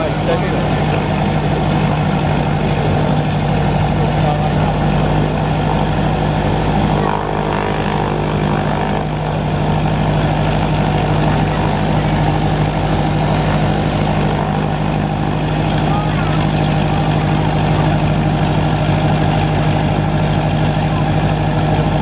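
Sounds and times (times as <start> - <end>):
airplane engine idling: 0.0 - 22.0.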